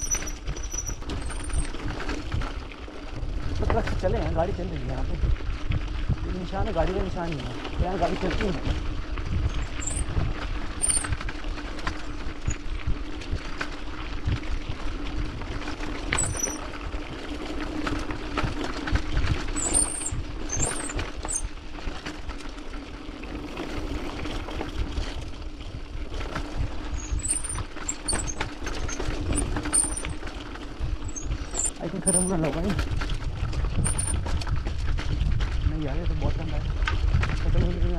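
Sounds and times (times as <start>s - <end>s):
bike rattling: 0.0s - 37.9s.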